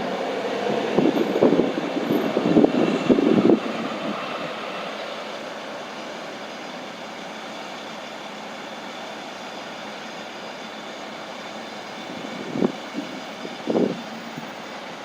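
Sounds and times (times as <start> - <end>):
truck running on rail line: 0.0 - 15.0.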